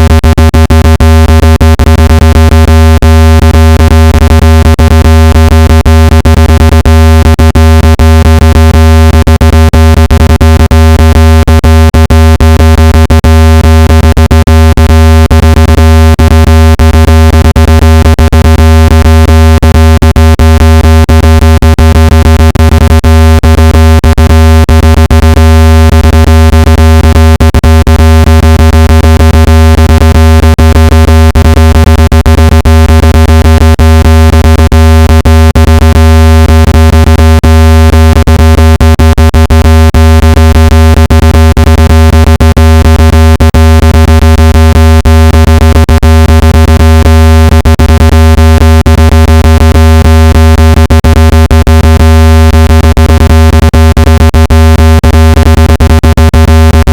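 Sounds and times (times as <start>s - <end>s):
low electronic buzzing tone: 0.0s - 56.9s.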